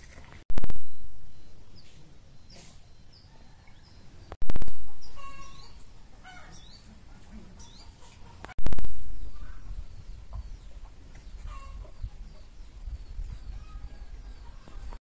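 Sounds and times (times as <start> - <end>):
birds chirping and whistling: 0.7 - 6.9, 7.6 - 8.1, 8.9 - 15.0.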